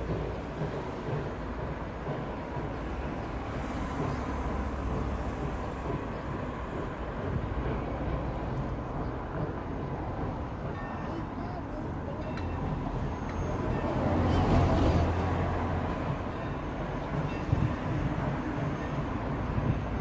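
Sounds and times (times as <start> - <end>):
steam locomotive rumbling: 0.0 - 20.0.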